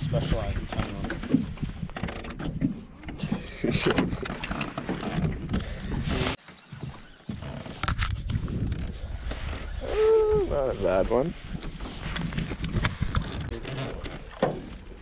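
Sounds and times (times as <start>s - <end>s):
wind rumbling on microphone: 0.0s - 6.4s, 7.3s - 15.0s.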